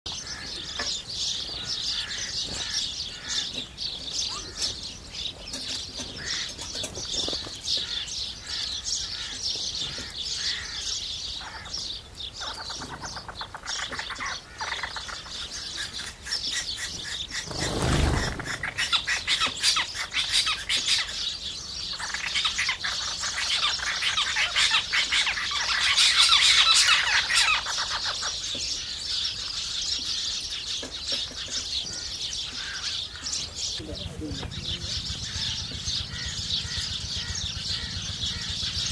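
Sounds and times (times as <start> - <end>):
sparrows chirping: 0.1 - 38.9.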